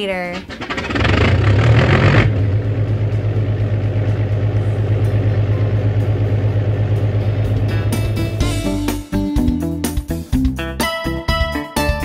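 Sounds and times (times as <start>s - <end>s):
engine idling: 0.0s - 10.7s.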